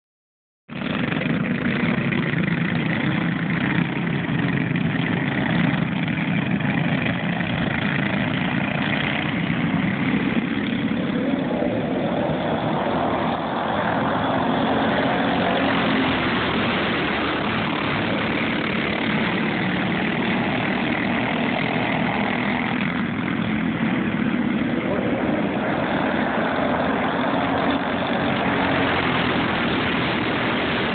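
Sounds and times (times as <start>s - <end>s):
go-kart engines buzzing: 0.7s - 30.9s.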